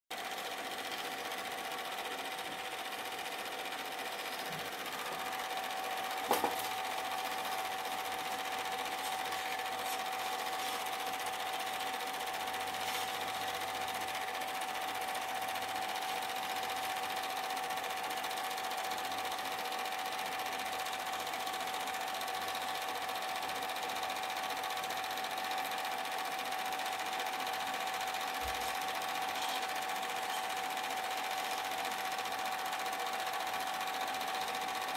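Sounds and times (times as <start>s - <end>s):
film projector whine: 0.1s - 34.9s.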